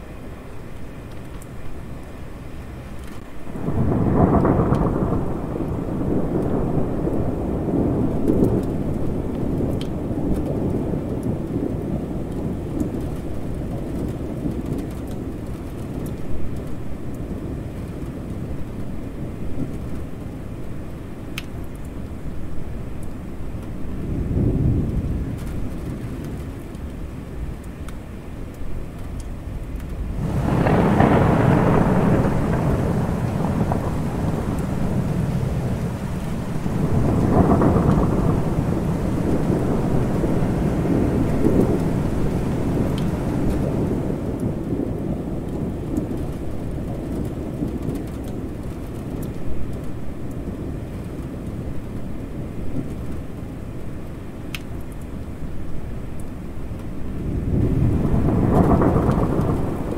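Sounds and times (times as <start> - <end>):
steady rain: 0.0 - 59.9
rolling thunder: 3.4 - 20.3, 23.6 - 27.6, 28.9 - 53.5, 56.9 - 59.9.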